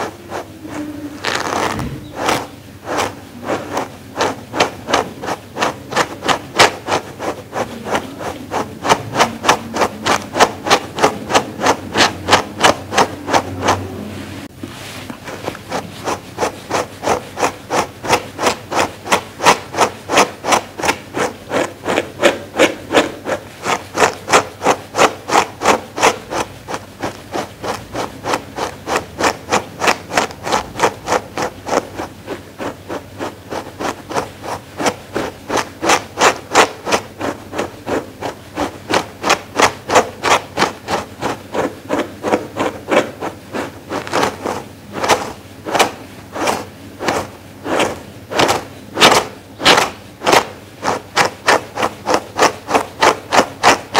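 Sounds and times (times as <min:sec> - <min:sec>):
brush scratching through fleece: 0:00.0 - 0:53.9.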